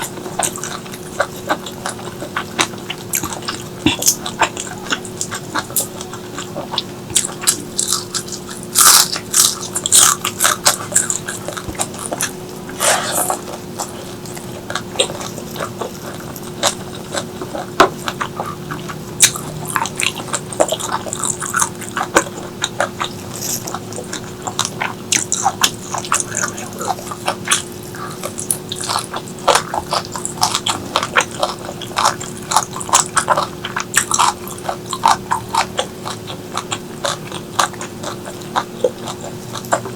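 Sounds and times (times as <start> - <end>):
faint steady hum: 0.0 - 39.9
person chewing crunchy food: 0.0 - 39.9.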